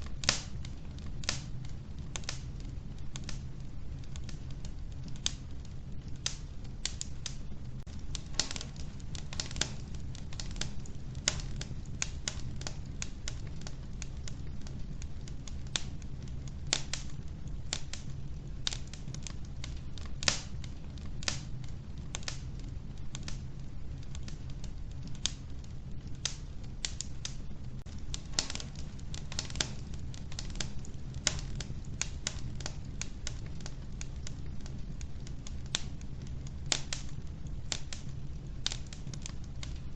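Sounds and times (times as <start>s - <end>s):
low rumble of burning: 0.0s - 39.9s
wood fire snapping and popping: 0.0s - 39.9s.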